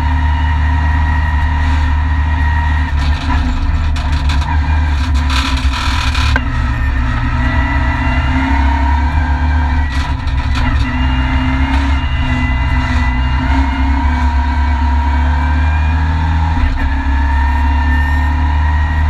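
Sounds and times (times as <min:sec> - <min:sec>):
rally car engine running hard: 0:00.0 - 0:19.0.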